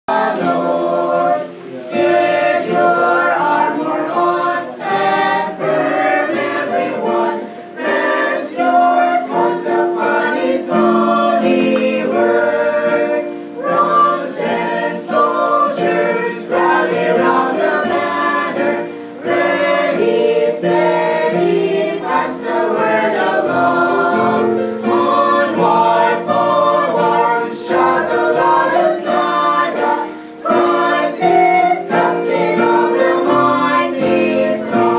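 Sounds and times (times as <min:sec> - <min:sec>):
choir singing a hymn: 0:00.1 - 0:34.9.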